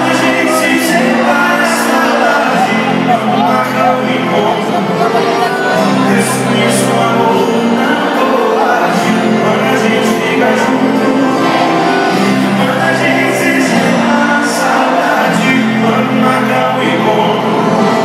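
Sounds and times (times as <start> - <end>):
live band with singing: 0.0 - 18.0.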